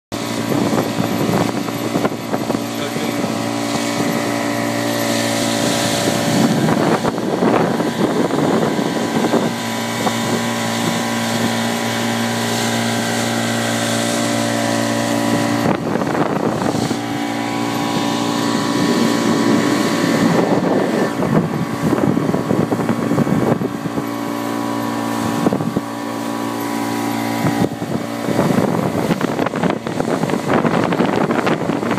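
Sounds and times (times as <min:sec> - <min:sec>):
outboard motor running: 0:00.1 - 0:31.9
wind and water rushing: 0:00.1 - 0:31.9.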